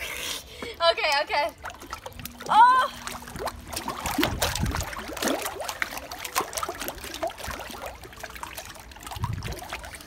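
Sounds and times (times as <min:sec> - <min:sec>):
thick water sloshing: 0:01.0 - 0:10.0.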